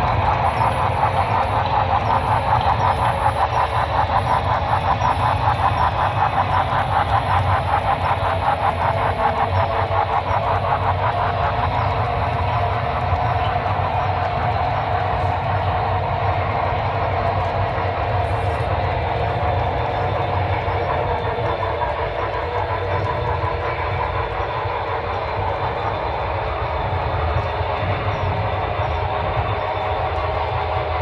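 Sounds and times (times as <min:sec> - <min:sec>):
model train rumble: 0:00.0 - 0:31.0.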